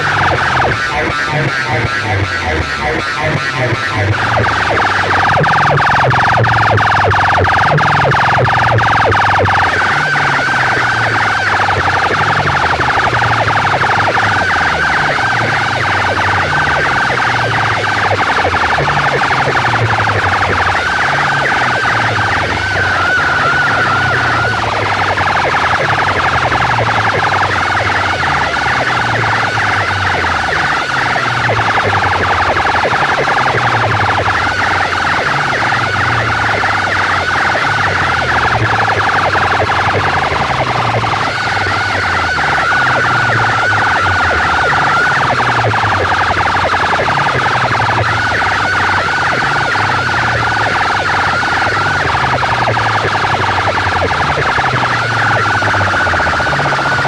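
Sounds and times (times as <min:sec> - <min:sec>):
loud music through loudspeakers: 0:00.0 - 0:57.0.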